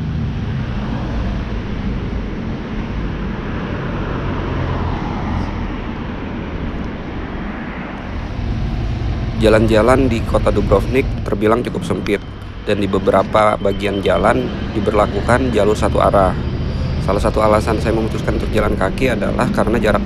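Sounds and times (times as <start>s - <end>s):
vehicle passing close by: 0.0s - 20.0s.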